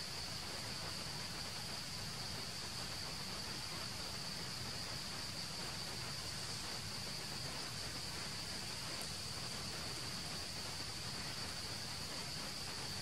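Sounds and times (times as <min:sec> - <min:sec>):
constant hiss: 0:00.0 - 0:13.0
forest insects droning: 0:00.0 - 0:13.0.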